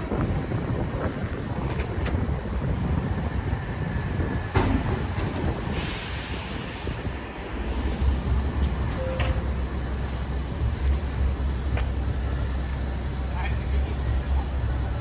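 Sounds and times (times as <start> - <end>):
city street rumble: 0.0 - 15.0.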